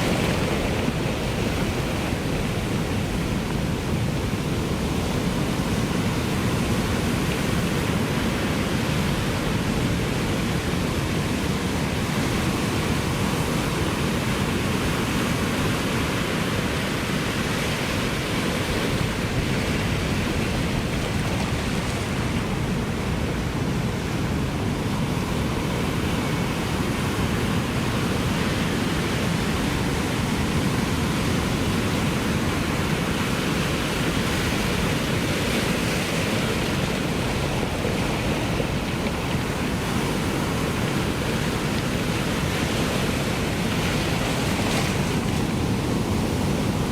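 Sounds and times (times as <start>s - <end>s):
ocean surf: 0.0s - 46.9s.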